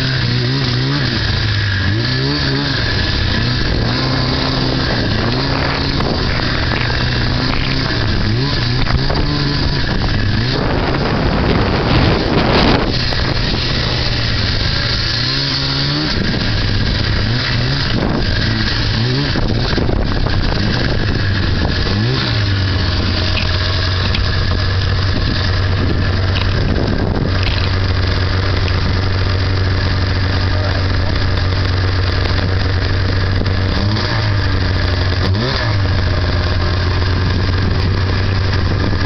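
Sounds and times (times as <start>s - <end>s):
snowmobile engine droning: 0.0s - 39.0s.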